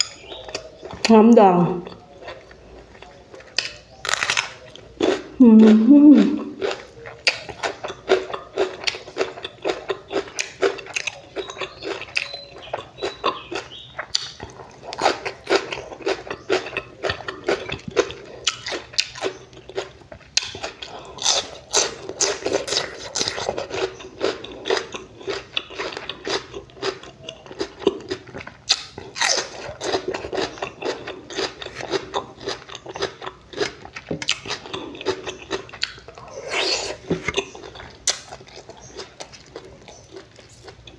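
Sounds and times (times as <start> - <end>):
person chewing and smacking food: 0.0 - 1.1, 1.8 - 40.9
food crunching: 1.8 - 40.9.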